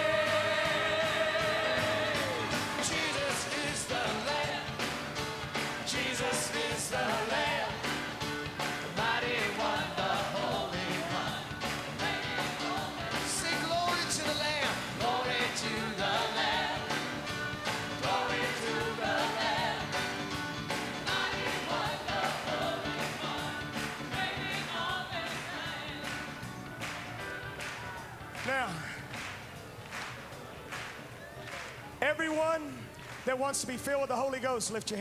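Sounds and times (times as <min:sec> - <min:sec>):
voices singing: 0:00.0 - 0:28.1
band playing: 0:00.0 - 0:31.1.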